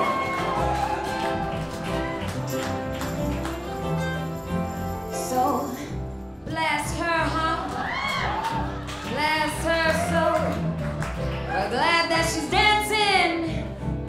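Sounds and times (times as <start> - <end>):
live band with acoustic guitar: 0.0 - 14.0.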